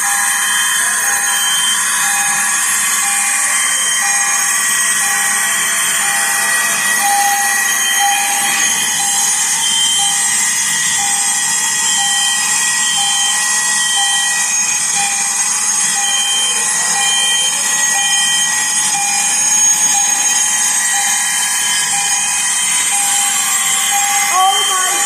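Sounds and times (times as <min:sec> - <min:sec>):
fire alarm sounders: 0:00.0 - 0:25.0.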